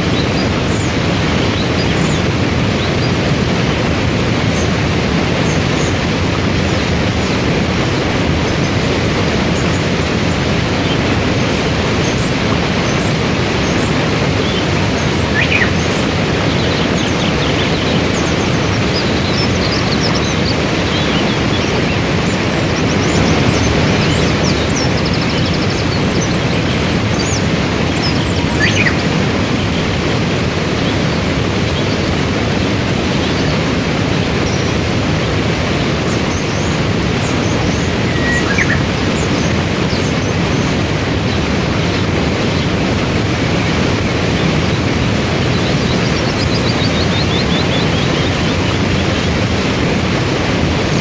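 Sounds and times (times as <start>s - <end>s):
small birds chirping: 0.0s - 51.0s
waterfall and rapids rushing: 0.0s - 51.0s.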